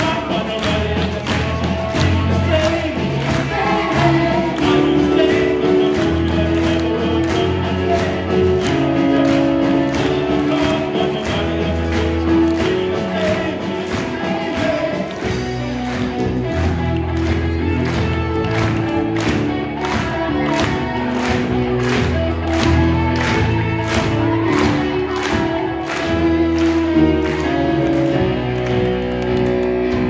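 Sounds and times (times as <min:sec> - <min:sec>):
person singing: 0:00.0 - 0:29.7
bass guitar: 0:00.0 - 0:30.0
drum kit beat: 0:00.0 - 0:30.0
electric guitar: 0:00.0 - 0:30.0
keyboard: 0:00.0 - 0:30.0.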